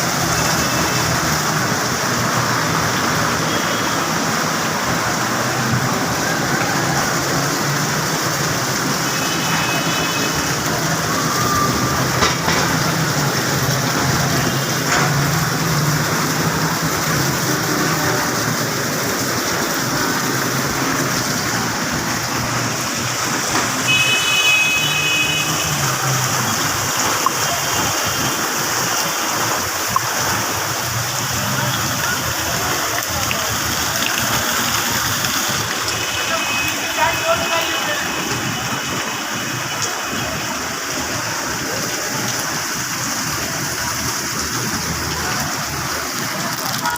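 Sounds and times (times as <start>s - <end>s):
heavy rain pouring: 0.0s - 46.9s
road traffic: 0.0s - 46.9s.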